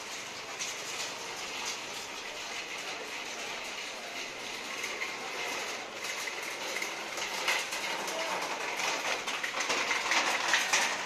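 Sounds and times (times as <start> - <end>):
street noise hiss: 0.0 - 10.6.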